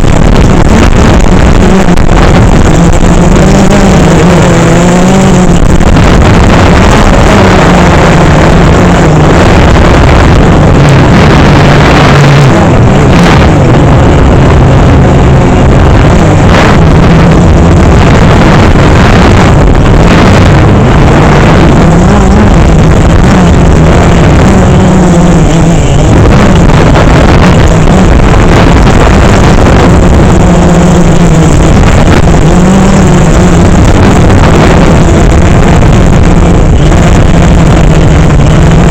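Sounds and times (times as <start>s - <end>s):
air and wind rushing: 0.0s - 38.9s
drone motors buzzing: 0.0s - 38.9s.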